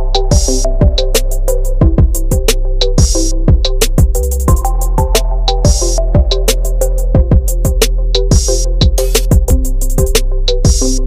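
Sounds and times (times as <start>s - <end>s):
electronic drum beat: 0.0s - 11.0s.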